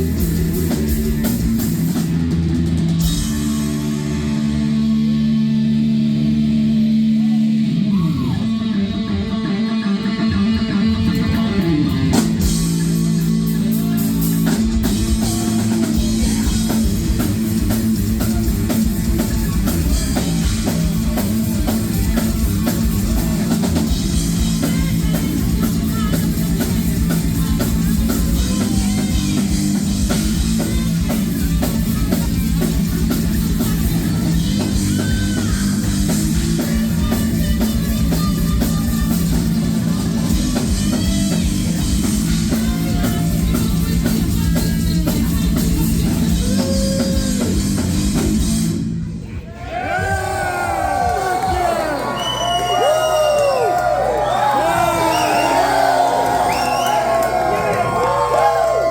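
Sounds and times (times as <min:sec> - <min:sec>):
heavy metal band playing live: 0:00.0 - 0:49.2.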